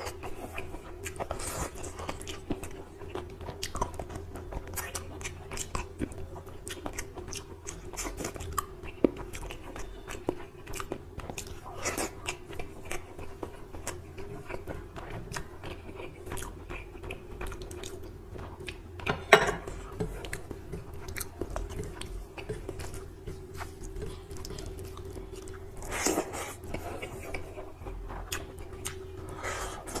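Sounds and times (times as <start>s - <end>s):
close chewing and crunching: 0.0s - 30.0s
faint steady hum: 0.0s - 30.0s.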